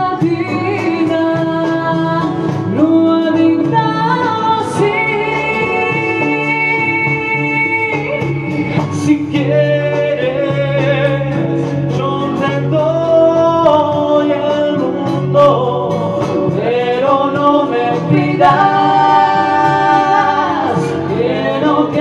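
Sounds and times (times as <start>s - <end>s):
instrumental accompaniment: 0.0s - 22.0s
person singing: 0.0s - 22.0s.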